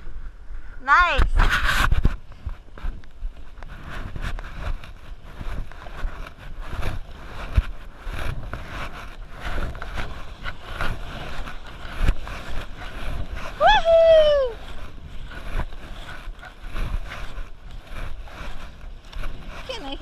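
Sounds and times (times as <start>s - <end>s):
wind buffeting microphone: 0.0s - 20.0s
water splashing around canoe: 1.7s - 20.0s.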